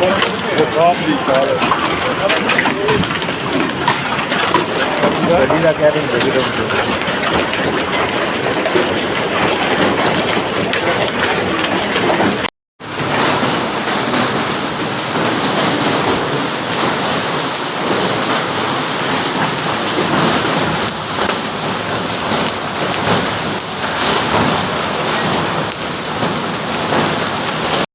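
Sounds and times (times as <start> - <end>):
hail clattering on hard surfaces: 0.0 - 10.7, 12.8 - 27.9.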